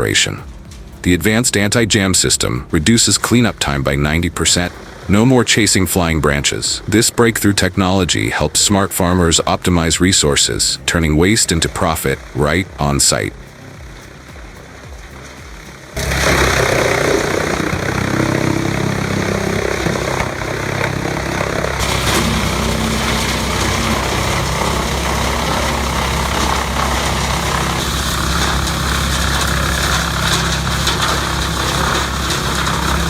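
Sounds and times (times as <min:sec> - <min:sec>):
rough chipping noise: 0:00.0 - 0:33.0
wood chipper engine drone: 0:00.0 - 0:33.0.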